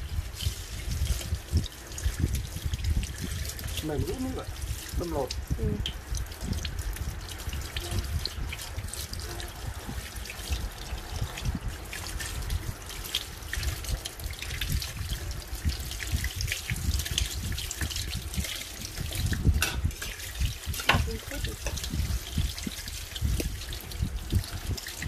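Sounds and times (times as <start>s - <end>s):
water trickling and splashing: 0.0s - 25.0s.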